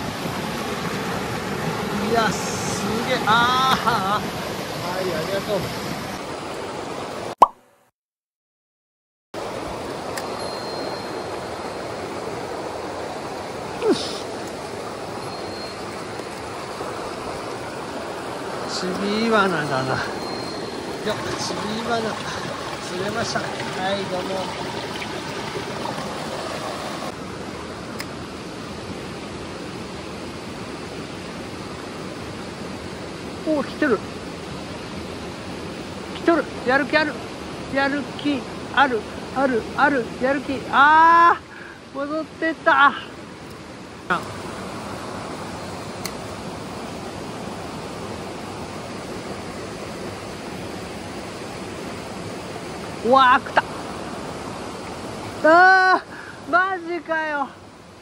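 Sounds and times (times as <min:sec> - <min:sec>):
stream flowing over rocks: 0:00.0 - 0:07.4, 0:09.4 - 0:58.0.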